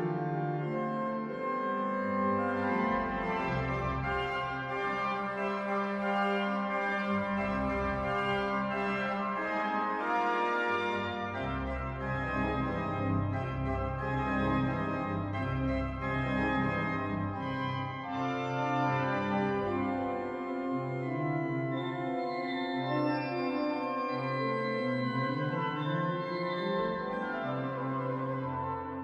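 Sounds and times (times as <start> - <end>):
organ music: 0.0 - 29.0.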